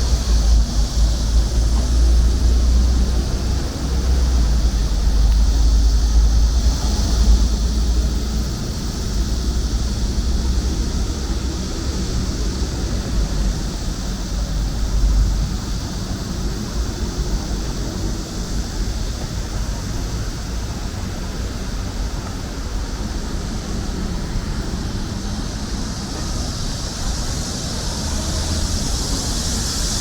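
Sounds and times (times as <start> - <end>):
cicadas chorus: 0.0 - 30.0.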